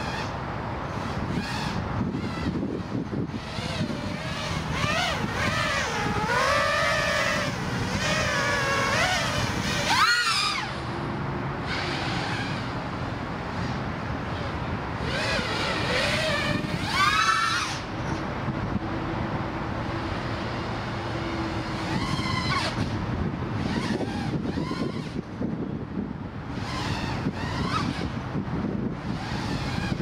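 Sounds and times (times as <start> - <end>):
drone motors whining: 0.0 - 18.8, 19.8 - 23.0, 23.6 - 25.6, 26.5 - 30.0.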